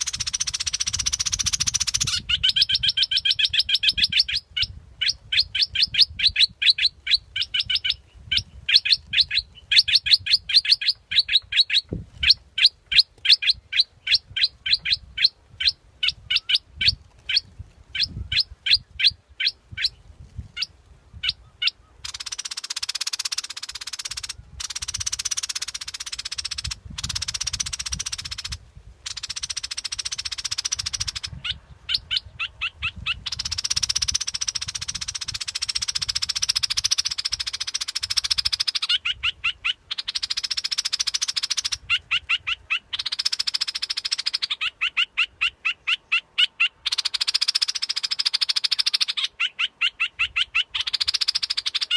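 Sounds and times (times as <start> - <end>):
bird buzzy trills: 0.0 - 17.4, 20.6 - 51.9
bird sharp chirps: 0.0 - 17.4, 21.2 - 51.9.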